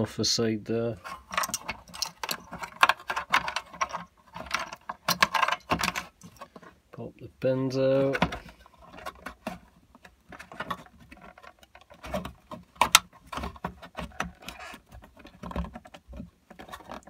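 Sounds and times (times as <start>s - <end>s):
hands working wire connectors: 1.0s - 7.0s, 7.6s - 17.0s.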